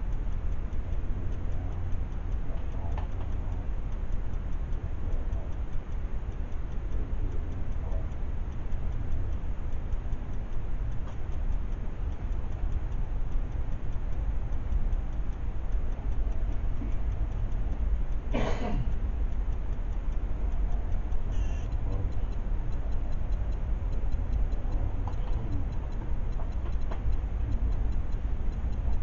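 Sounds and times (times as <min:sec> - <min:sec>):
fast regular ticking: 0:00.0 - 0:29.0
low background rumble: 0:00.0 - 0:29.0.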